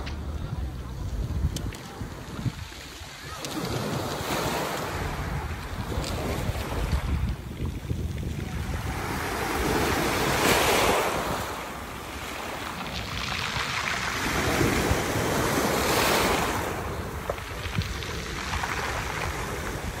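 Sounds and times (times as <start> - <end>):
wind rumbling on microphone: 0.0 - 20.0
waves washing up pebble beach: 2.0 - 20.0.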